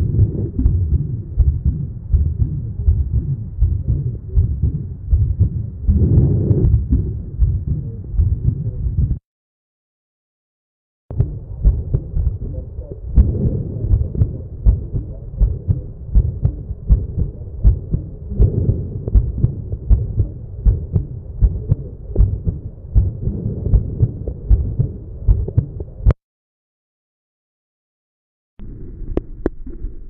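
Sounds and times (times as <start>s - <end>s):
continuous heart murmur: 0.0s - 9.2s, 11.1s - 26.2s
low heartbeats: 0.0s - 9.2s, 11.1s - 26.2s.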